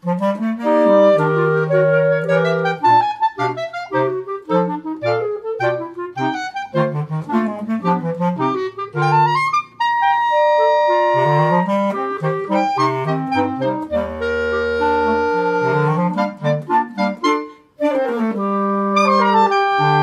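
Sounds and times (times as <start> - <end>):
clarinet quartet playing: 0.0 - 20.0
low bass clarinet note: 0.0 - 20.0.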